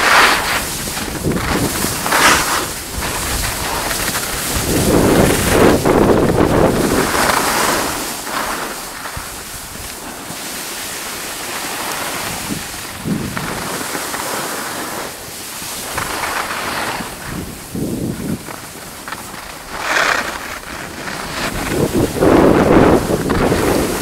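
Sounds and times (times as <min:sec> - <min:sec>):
wind buffeting microphone: 0:00.0 - 0:10.1, 0:12.1 - 0:13.9, 0:15.7 - 0:24.0
skis sliding over snow: 0:00.0 - 0:24.0.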